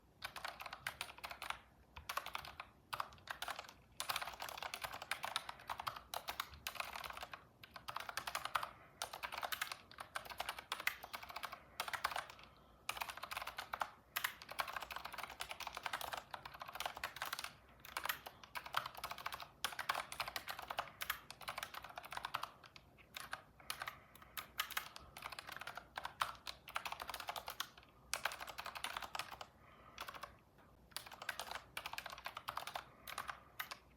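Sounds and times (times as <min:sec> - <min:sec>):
typing on a computer keyboard: 0:00.1 - 0:33.9.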